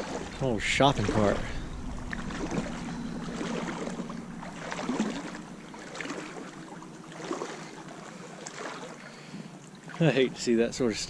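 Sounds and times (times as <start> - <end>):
footsteps wading through water: 0.0 - 10.5
water sloshing and splashing: 0.0 - 11.0.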